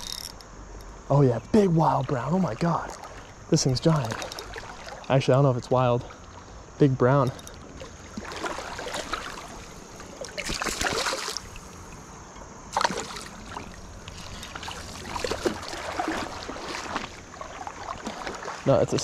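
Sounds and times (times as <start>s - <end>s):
stream flowing: 0.0s - 19.0s
water splashing: 1.5s - 12.1s, 12.7s - 19.0s.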